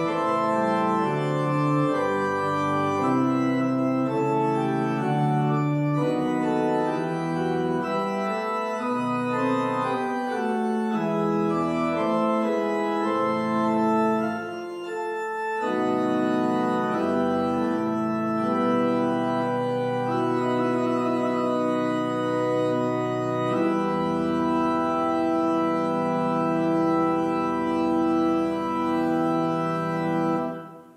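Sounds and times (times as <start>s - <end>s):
church organ chords: 0.0s - 30.9s
deep organ pedal notes: 0.0s - 30.9s.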